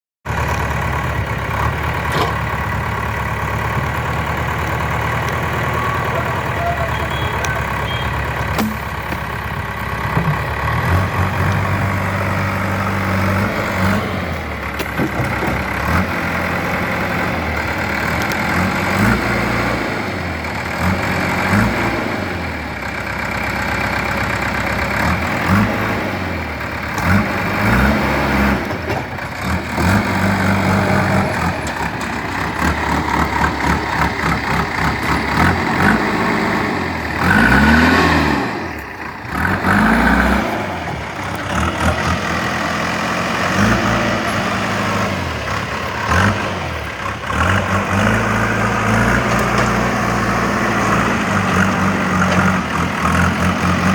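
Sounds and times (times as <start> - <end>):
diesel engine running: 0.2 - 53.9.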